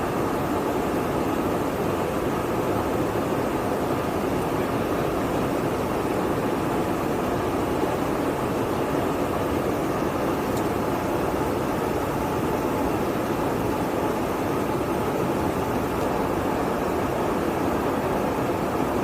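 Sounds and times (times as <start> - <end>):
jet aircraft roar: 0.0 - 19.0.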